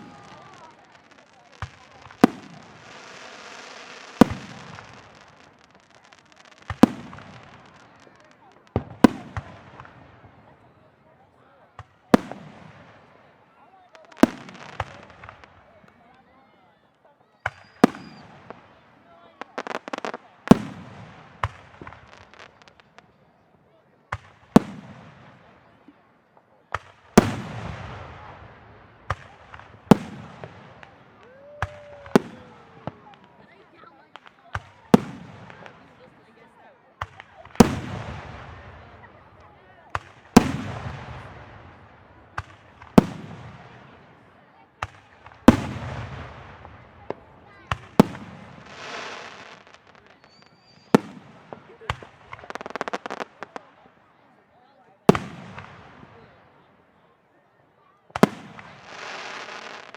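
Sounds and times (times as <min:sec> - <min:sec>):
fireworks bangs: 0:00.0 - 0:16.1, 0:17.3 - 0:23.2, 0:24.1 - 0:25.9, 0:26.7 - 0:53.9, 0:55.1 - 0:56.4, 0:58.1 - 0:59.9
crackling hiss of fireworks: 0:00.0 - 0:56.9, 0:57.7 - 0:59.9.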